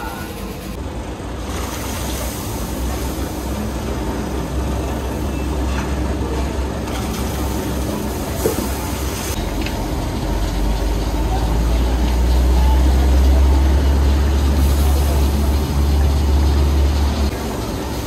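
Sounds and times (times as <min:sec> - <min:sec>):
pot of broth boiling hard: 0:01.3 - 0:18.0.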